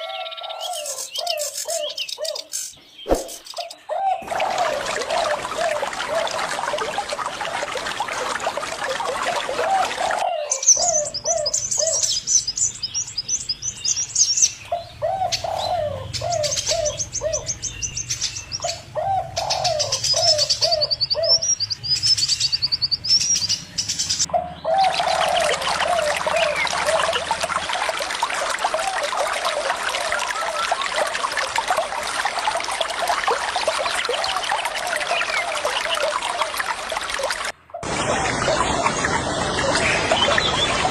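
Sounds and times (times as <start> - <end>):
birds calling: 0.0 - 31.4, 32.5 - 40.9
trickling water: 0.0 - 40.9.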